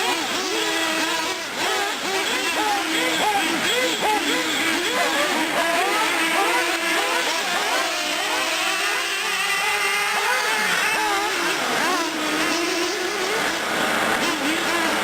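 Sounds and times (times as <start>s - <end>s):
small engines revving: 0.0s - 15.0s.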